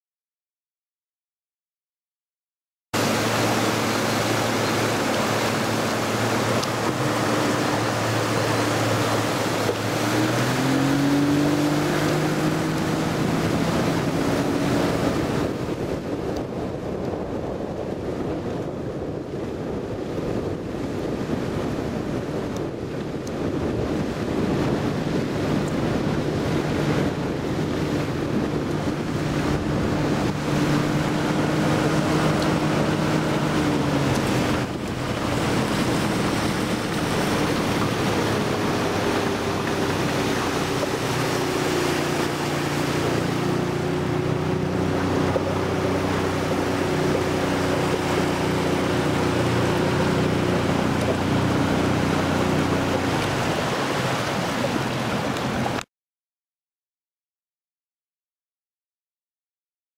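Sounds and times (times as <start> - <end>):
outboard motor running: 3.0 - 55.8
water rushing: 3.0 - 55.9
wind: 3.0 - 55.9.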